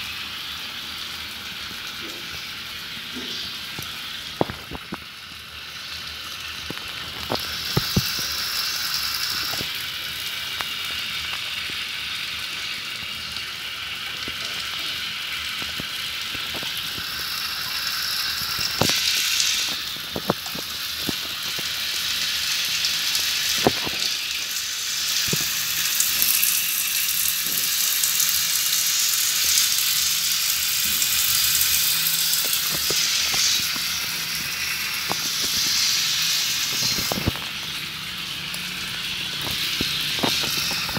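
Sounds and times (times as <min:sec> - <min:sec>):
tap water running: 0:00.0 - 0:40.9.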